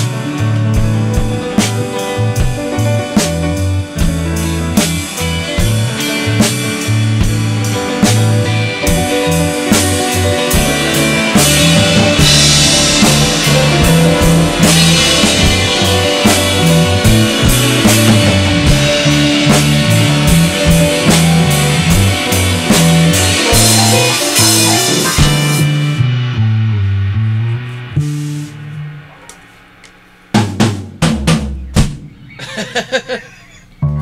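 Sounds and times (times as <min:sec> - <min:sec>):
bass line: 0:00.0 - 0:32.9, 0:33.8 - 0:34.0
drum kit beat: 0:00.0 - 0:34.0
guitar: 0:00.0 - 0:34.0.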